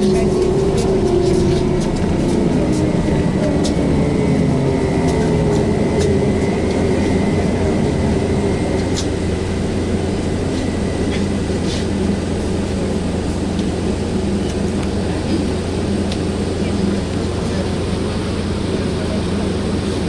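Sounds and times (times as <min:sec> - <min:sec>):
road rumble: 0:00.0 - 0:20.0.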